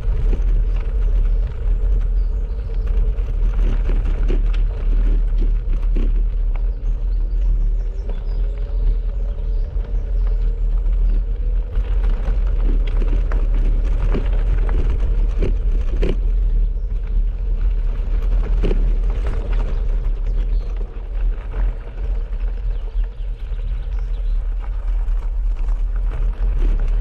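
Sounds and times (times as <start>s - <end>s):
bicycle rattling over stones: 0.0s - 27.0s
tyres crunching on gravel: 0.0s - 27.0s
wind rumble on microphone: 0.0s - 27.0s.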